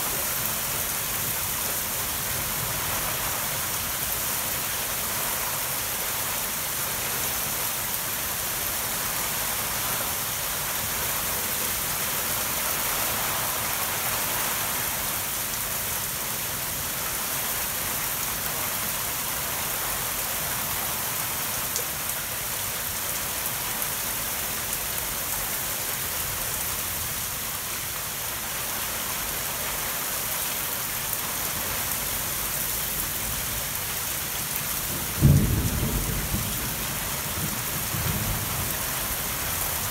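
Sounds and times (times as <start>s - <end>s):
torrential rain: 0.0s - 39.9s.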